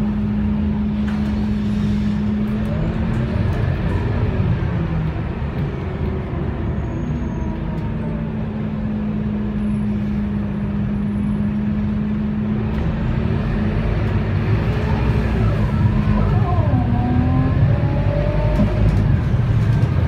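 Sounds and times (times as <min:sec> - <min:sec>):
bus diesel engine rumbling: 0:00.0 - 0:20.0.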